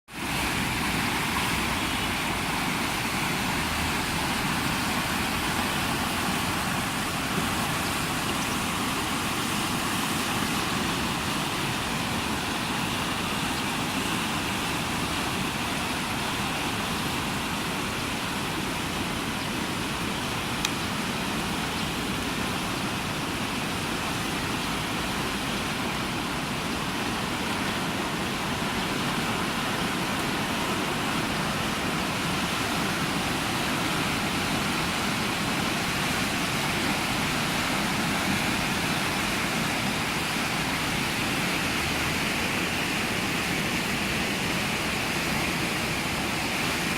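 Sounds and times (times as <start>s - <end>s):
rushing river roar: 0.1s - 46.9s.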